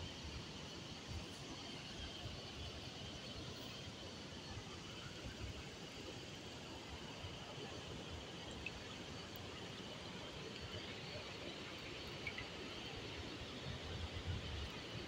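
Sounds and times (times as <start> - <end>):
river water running: 0.1 - 15.0.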